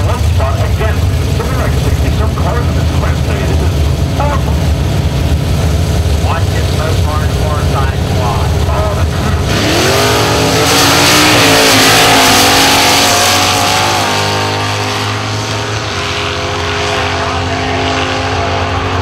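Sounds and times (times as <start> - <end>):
drag racing cars accelerating: 0.0 - 19.0.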